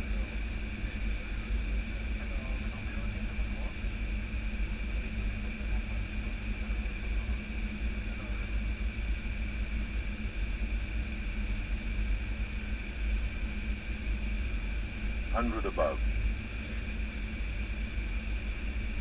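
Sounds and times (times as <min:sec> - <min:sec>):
airflow and engine rumble: 0:00.0 - 0:19.0
steady high hum: 0:00.0 - 0:19.0.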